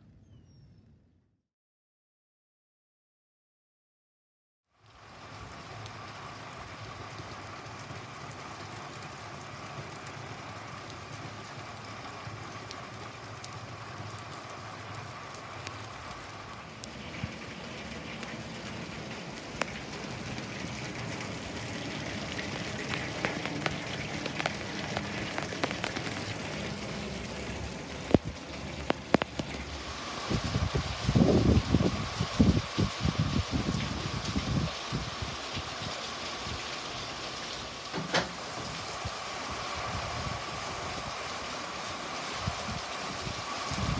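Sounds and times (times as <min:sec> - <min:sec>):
heavy rain hissing: 0:04.8 - 0:43.9
raindrops splashing close by: 0:04.8 - 0:43.9.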